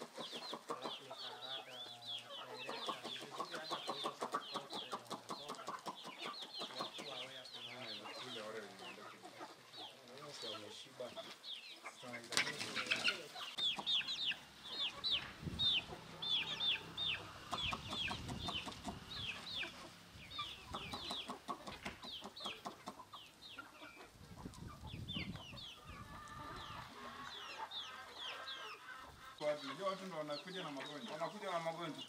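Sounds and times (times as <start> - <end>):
chickens clucking: 0.0 - 32.0
chicks peeping: 0.0 - 32.0.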